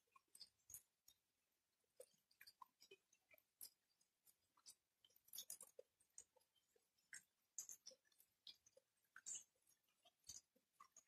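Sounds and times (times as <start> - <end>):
sparse raindrops ticking: 0.0 - 11.0.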